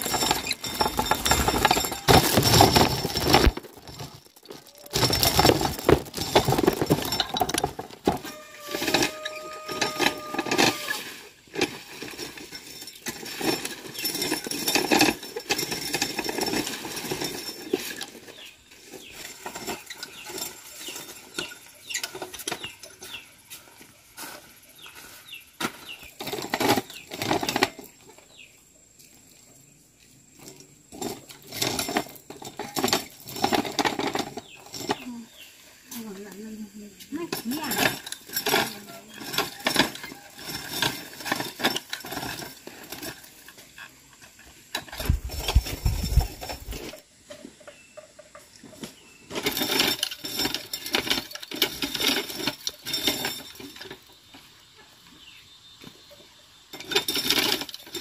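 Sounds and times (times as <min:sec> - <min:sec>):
corn sheller rattling and grinding: 0:00.0 - 0:28.5, 0:30.4 - 0:55.3, 0:55.9 - 0:58.0.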